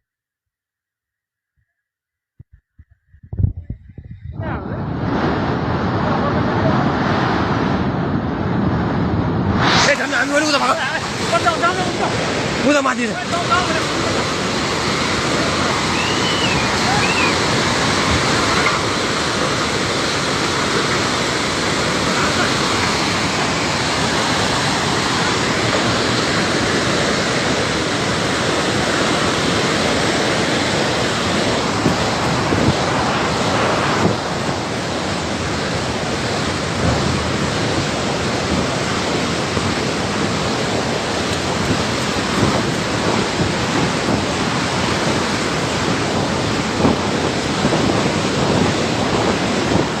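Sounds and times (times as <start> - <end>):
flood water rushing: 8.7 - 50.0.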